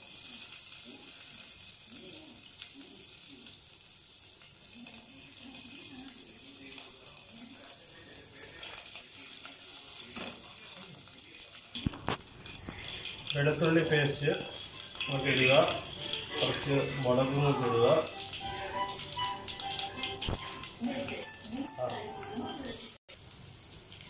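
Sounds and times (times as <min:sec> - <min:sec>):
seeds sizzling in hot oil: 0:00.0 - 0:24.0.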